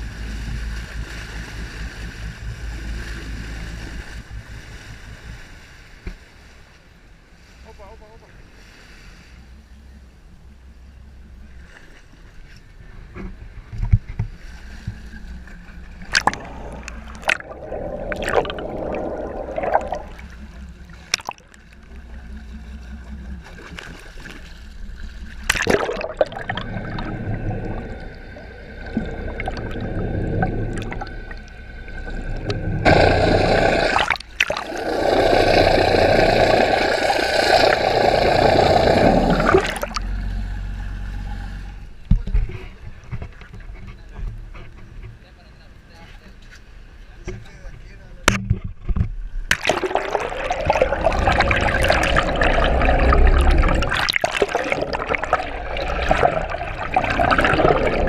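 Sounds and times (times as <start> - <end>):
water gurgling and sloshing: 0.0 - 58.0.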